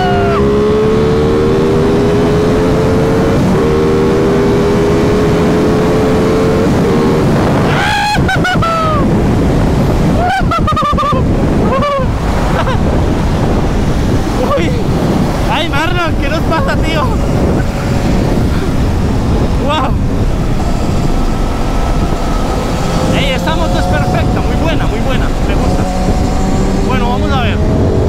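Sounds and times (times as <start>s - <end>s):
motorcycle engine accelerating: 0.0s - 28.0s
wind rush: 0.0s - 28.0s.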